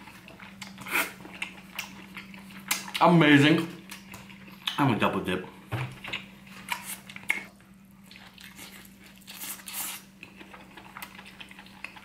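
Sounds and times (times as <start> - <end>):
person chewing wetly: 0.0 - 3.1, 3.8 - 4.8, 6.0 - 12.0
faint steady hum: 0.0 - 12.0.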